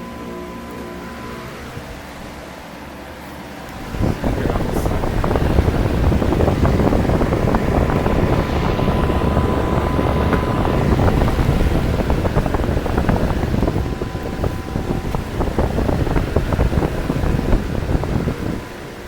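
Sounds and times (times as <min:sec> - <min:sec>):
heat pump fan droning: 0:00.0 - 0:19.0
wind buffeting microphone: 0:03.7 - 0:19.0.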